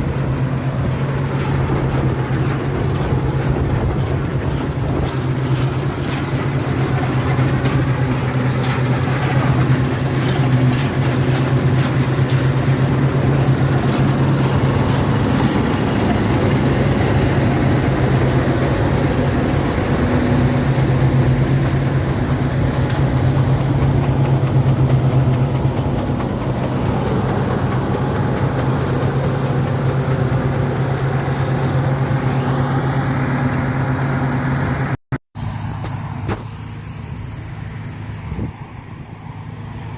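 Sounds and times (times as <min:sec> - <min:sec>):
machinery clattering: 0:00.0 - 0:34.7
diesel engine running: 0:00.0 - 0:39.9.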